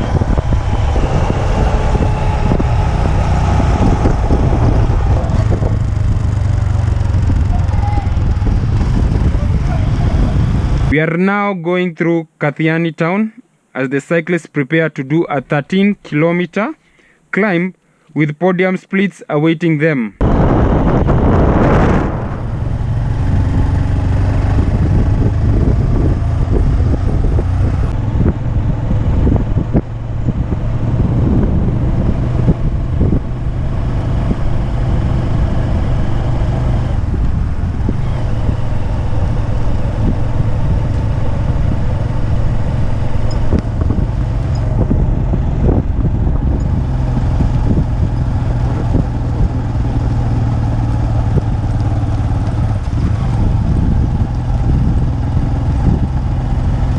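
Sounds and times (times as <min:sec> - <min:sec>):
vehicle engine running: 0:00.0 - 0:10.9, 0:20.2 - 0:56.9
road noise: 0:00.0 - 0:11.0, 0:20.2 - 0:56.9
wind noise: 0:00.0 - 0:11.0, 0:20.2 - 0:56.9.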